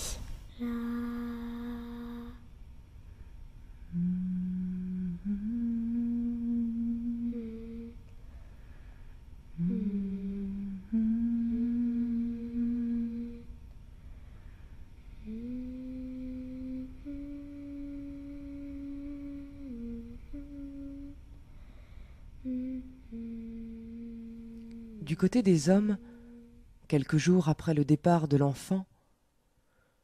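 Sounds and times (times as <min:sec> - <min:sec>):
person humming a slow melody: 0:00.0 - 0:02.6, 0:03.7 - 0:08.8, 0:09.5 - 0:14.3, 0:14.9 - 0:26.7.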